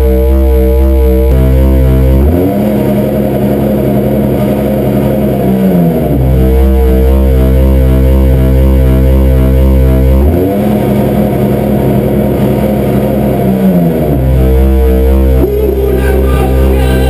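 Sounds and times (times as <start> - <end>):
distorted buzzing: 0.0 - 17.0
heavy bass drone: 0.0 - 17.0
pulsing synthesizer tones: 0.0 - 17.0.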